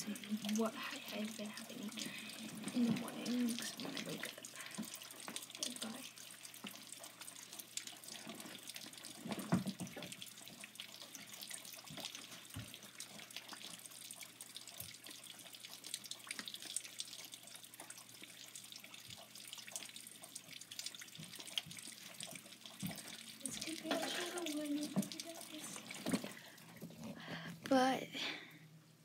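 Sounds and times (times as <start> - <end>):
rain patter with drips: 0.0 - 28.6.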